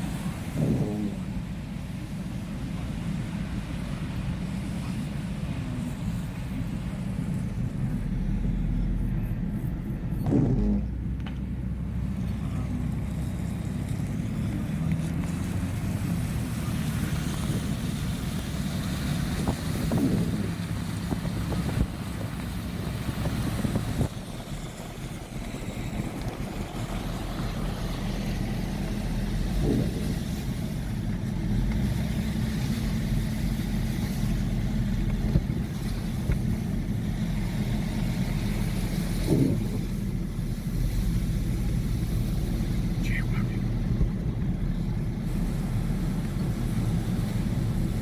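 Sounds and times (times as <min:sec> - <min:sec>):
car driving rumble: 0:00.0 - 0:48.0
road noise: 0:00.0 - 0:48.0.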